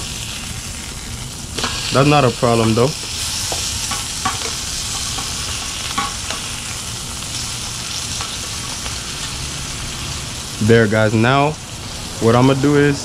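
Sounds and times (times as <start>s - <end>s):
fish sizzling in hot oil: 0.0s - 12.3s.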